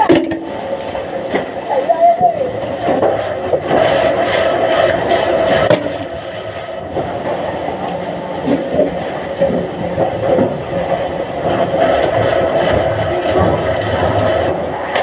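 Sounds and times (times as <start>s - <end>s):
mill machinery running: 0.0s - 15.0s
logs knocking and rattling: 2.5s - 15.0s.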